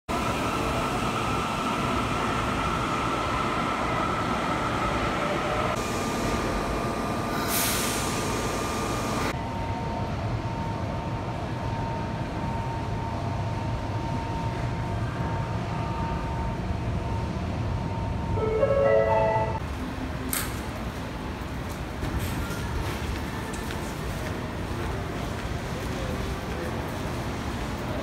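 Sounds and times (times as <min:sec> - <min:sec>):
train rumble and hum: 0:00.1 - 0:28.0.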